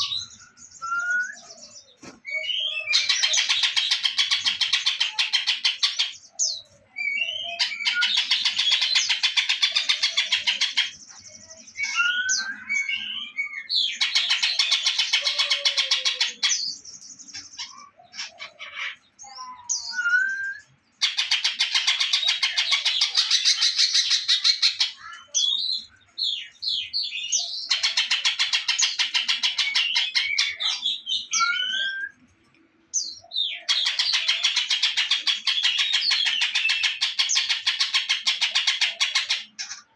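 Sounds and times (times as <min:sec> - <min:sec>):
songbird trills and whistles: 0:00.0 - 0:32.3.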